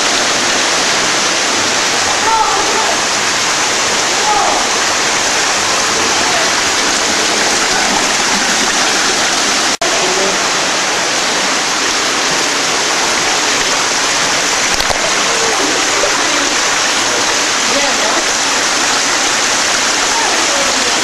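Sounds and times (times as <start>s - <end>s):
underground stream rushing: 0.0s - 21.0s.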